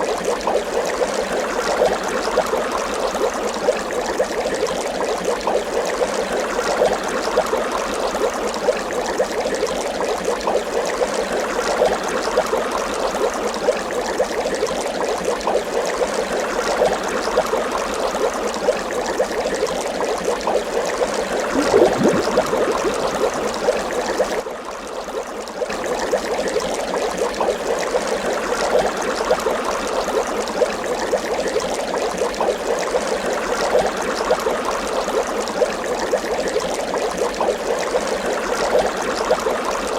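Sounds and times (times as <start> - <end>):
water bubbling and gurgling: 0.0 - 39.9.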